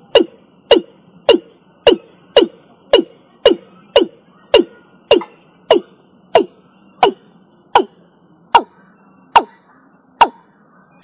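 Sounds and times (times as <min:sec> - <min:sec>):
bird calling falling notes: 0:00.0 - 0:11.0.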